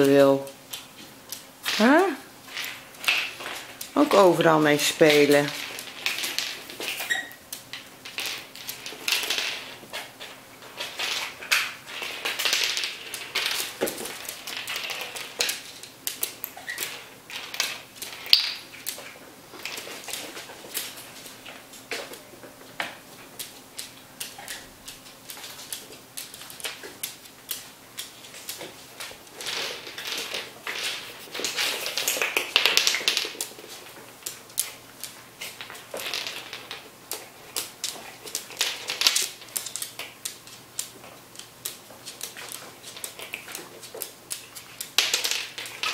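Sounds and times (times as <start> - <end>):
animals scuffling: 0.0 - 45.9.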